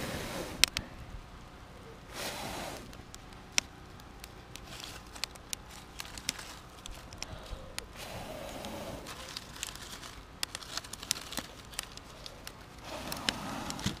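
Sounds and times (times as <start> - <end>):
fire crackling and popping: 0.0 - 14.0
paper and sticks rustling: 2.1 - 14.0.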